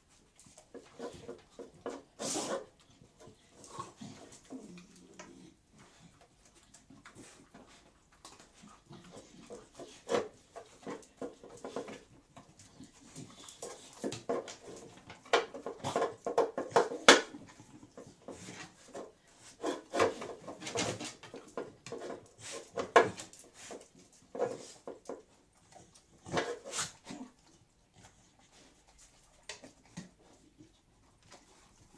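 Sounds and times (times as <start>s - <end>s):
dogs eating and sniffing: 0.0s - 31.9s.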